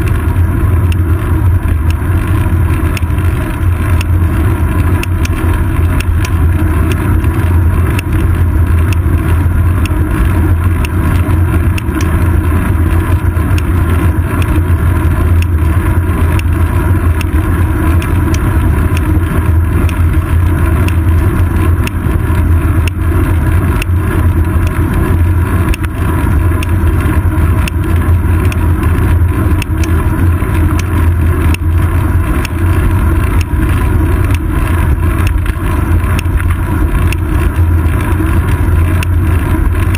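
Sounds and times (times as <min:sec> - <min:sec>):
small clicks and knocks: 0:00.0 - 0:39.9
wind and road rumble: 0:00.0 - 0:39.9.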